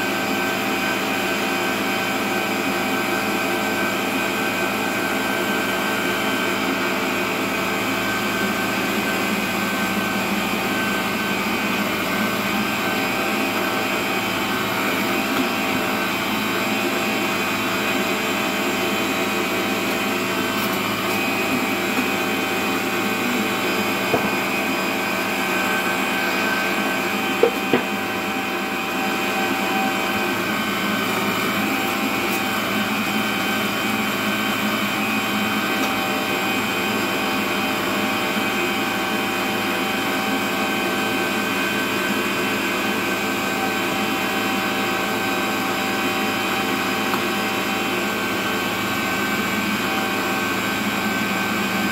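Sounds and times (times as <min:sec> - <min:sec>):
meat grinder motor whine: 0:00.0 - 0:51.9.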